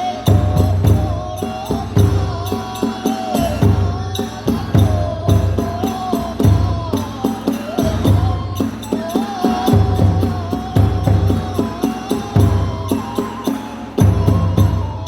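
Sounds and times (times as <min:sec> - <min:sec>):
bamboo flute melody: 0:00.0 - 0:15.0
hand cymbals clashing: 0:00.0 - 0:15.0
large drum beats: 0:00.0 - 0:15.0.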